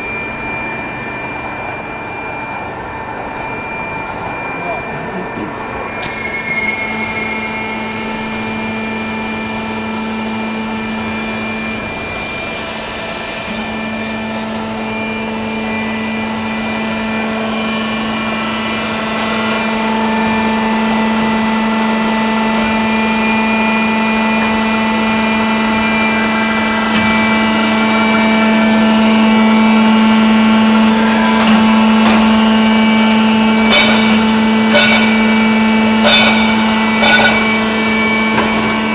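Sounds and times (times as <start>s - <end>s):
industrial machine hum and whine: 0.0s - 38.9s.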